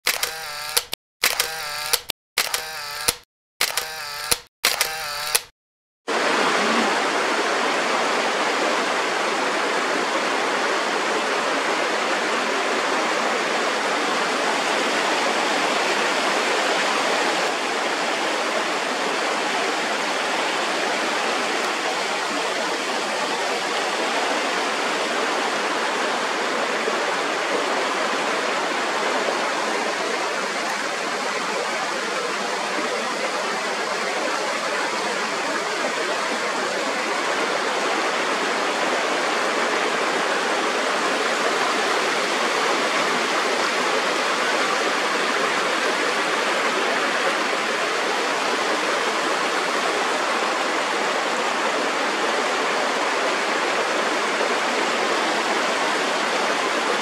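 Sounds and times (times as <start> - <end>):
stream water rushing over stones: 6.1 - 57.0.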